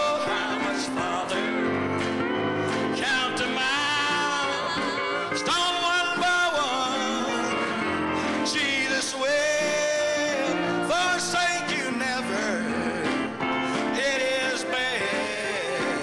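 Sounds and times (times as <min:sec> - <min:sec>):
man singing gospel into microphone: 0:00.0 - 0:16.0
piano accompaniment: 0:00.0 - 0:16.0.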